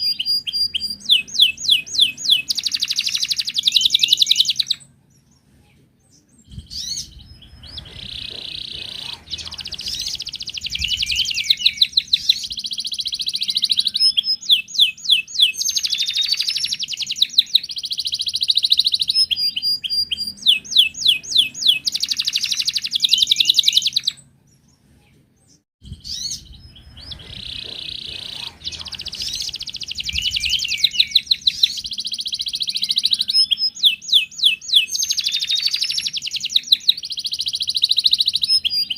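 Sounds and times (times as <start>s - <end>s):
canary singing rapid trills: 0.0s - 4.9s, 6.5s - 24.2s, 25.9s - 38.9s.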